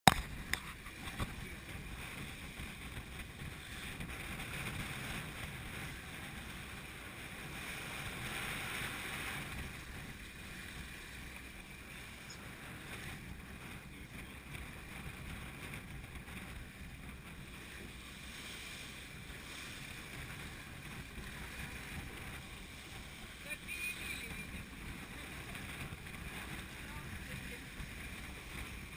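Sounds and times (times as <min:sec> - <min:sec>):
wind and water rushing: 0:00.1 - 0:28.9.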